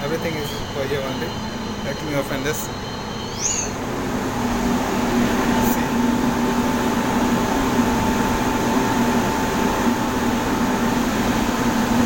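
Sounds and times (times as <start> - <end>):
faint high whine: 0.0 - 11.5
fan blowing air with hum: 0.0 - 12.0.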